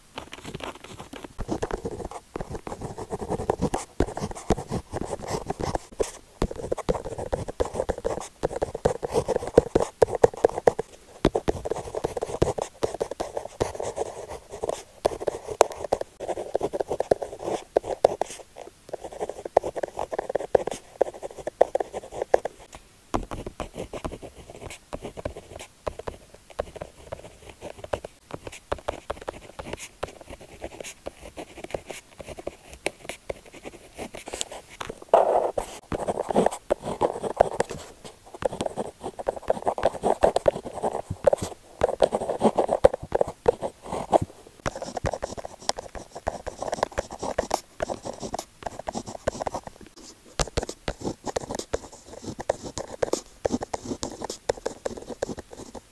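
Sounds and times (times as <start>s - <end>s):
pen scratching on paper: 0.2s - 22.6s, 23.3s - 55.8s.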